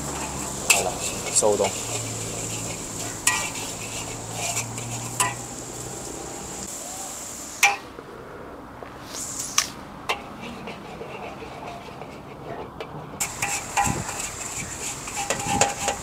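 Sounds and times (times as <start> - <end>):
metal spatula scraping a wok: 0.0 - 6.1, 9.0 - 16.0
food sizzling: 0.0 - 8.0, 8.9 - 11.8, 13.2 - 16.0.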